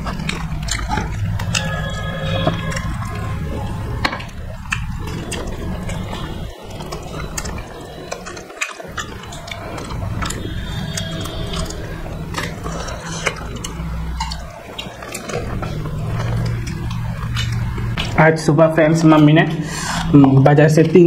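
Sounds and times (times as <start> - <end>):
wet chewing and lip smacks: 0.0 - 18.2
low steady hum: 0.0 - 21.0.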